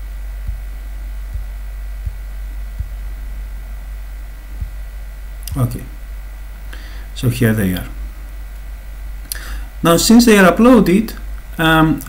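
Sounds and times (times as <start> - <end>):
soft low thumps: 0.0 - 9.9
low electrical hum: 0.0 - 12.0.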